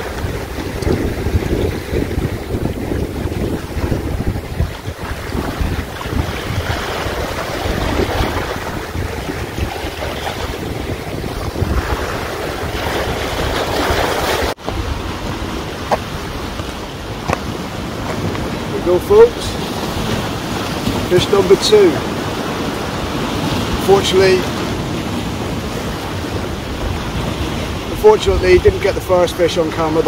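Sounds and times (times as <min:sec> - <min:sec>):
wind buffeting microphone: 0:00.0 - 0:29.1
surf washing on rocks: 0:00.0 - 0:30.0.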